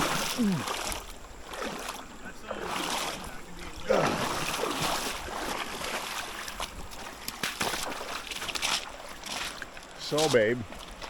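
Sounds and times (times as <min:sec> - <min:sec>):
rushing river water: 0:00.0 - 0:11.0.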